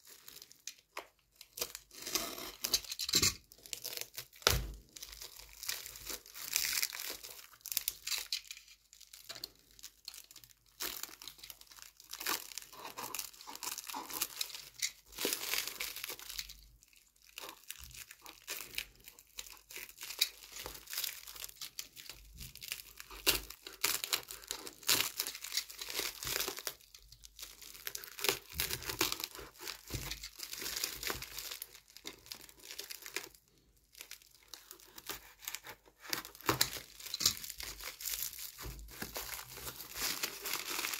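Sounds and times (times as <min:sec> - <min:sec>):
plastic wrap crinkling and tearing: 0:00.0 - 0:40.9.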